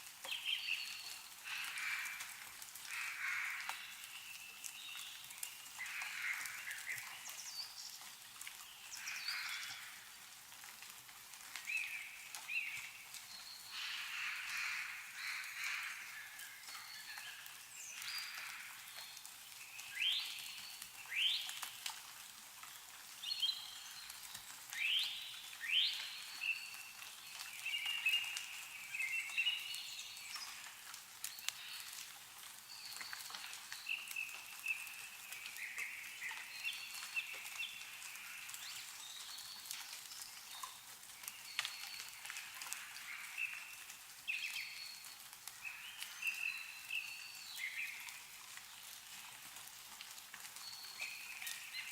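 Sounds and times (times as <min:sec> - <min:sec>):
faint meltwater dripping: 0:00.0 - 0:51.9
songbirds chirping and warbling: 0:00.2 - 0:10.2, 0:11.6 - 0:21.7, 0:23.2 - 0:48.9.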